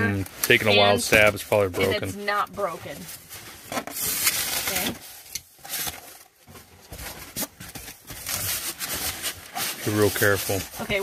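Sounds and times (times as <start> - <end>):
cardboard and styrofoam rustling: 0.0 - 11.0.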